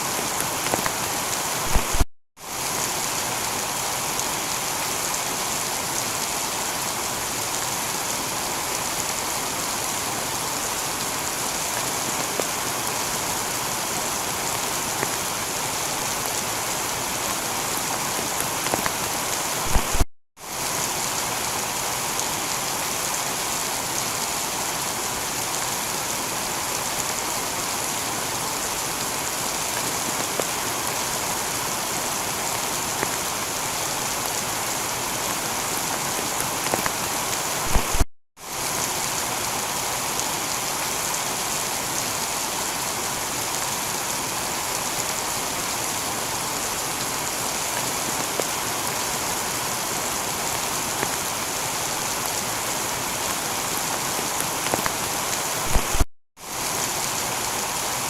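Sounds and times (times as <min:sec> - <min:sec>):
heavy rain on tiled roof: 0:00.0 - 0:58.0.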